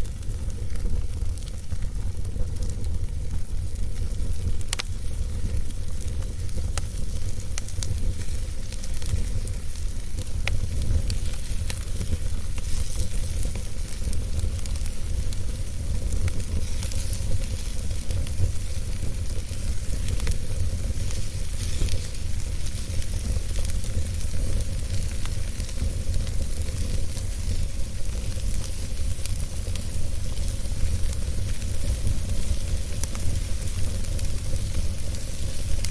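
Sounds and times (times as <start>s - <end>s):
burning wood crackling: 0.0s - 35.9s
fire rumbling and hissing: 0.0s - 35.9s.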